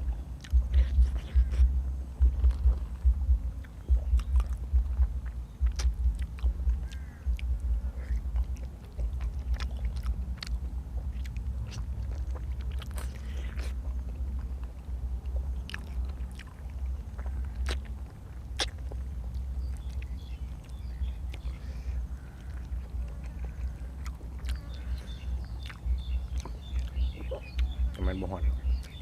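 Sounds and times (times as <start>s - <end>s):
close-miked chewing: 0.0s - 29.0s
sharp mouth clicks: 0.3s - 28.0s, 28.7s - 29.0s.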